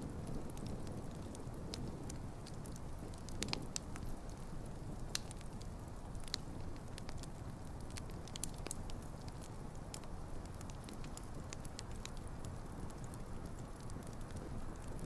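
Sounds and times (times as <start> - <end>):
fire crackling and popping: 0.0 - 15.0
rush of fire flames: 0.0 - 15.0.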